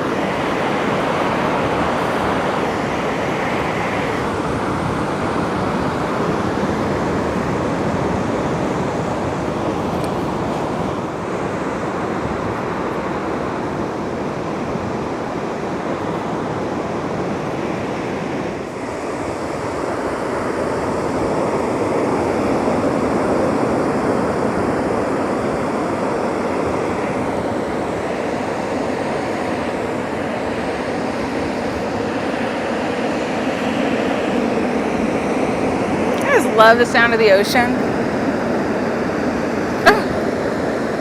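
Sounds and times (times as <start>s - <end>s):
wind on microphone: 0.0s - 36.8s
ocean waves washing onto beach: 0.0s - 41.0s.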